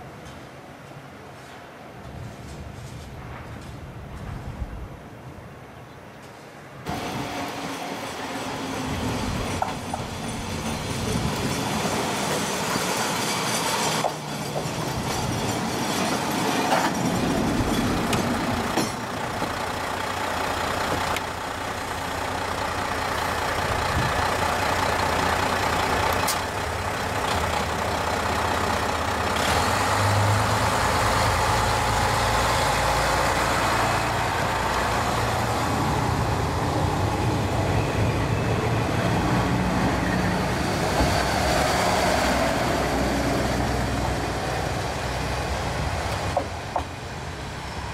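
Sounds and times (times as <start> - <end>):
diesel railcar running: 0.0 - 47.9.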